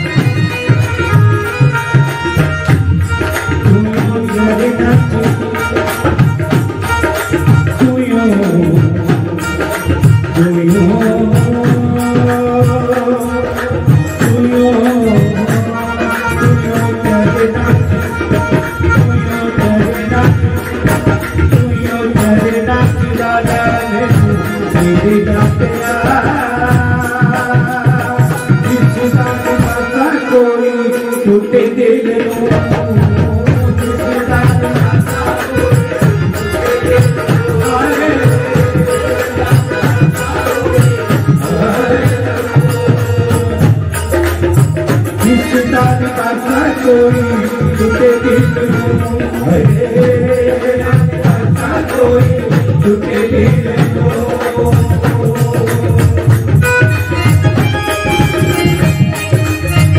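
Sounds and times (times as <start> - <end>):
electronic keyboard melody: 0.0 - 50.5, 56.1 - 59.9
hand drums playing: 0.0 - 59.9.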